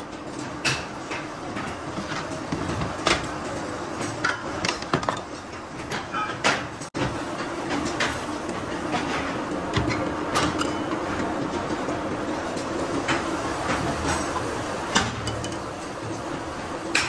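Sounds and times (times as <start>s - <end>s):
factory machinery running: 0.0s - 17.0s.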